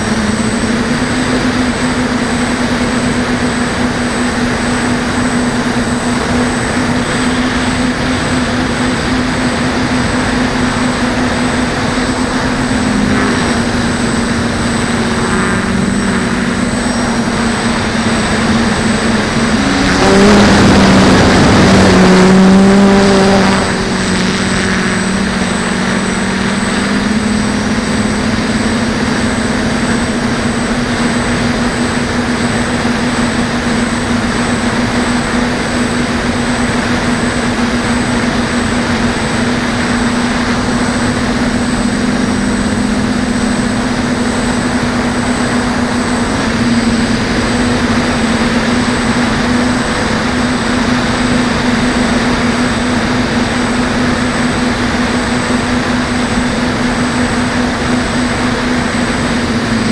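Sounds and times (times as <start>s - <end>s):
quadcopter motors buzzing: 0.0s - 59.9s.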